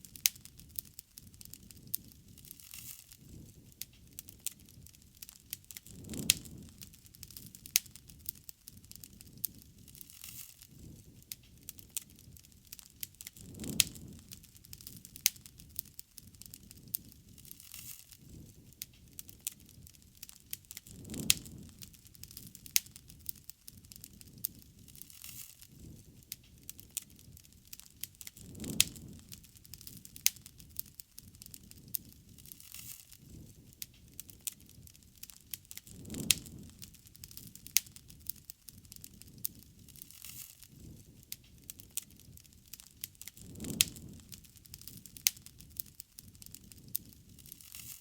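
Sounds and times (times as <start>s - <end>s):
bonfire crackling and popping: 0.0s - 48.0s.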